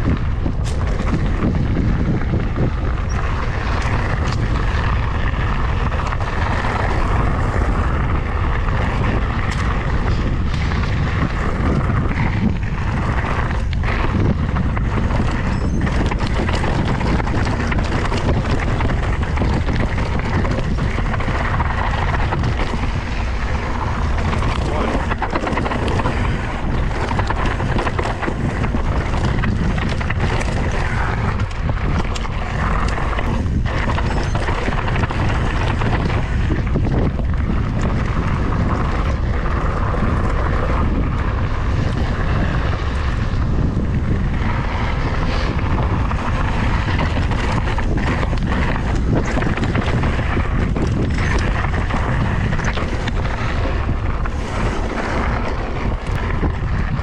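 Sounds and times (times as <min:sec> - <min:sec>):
bike rattling over bumps: 0:00.0 - 0:57.0
tyres on loose dirt: 0:00.0 - 0:57.0
wind rushing over microphone: 0:00.0 - 0:57.0.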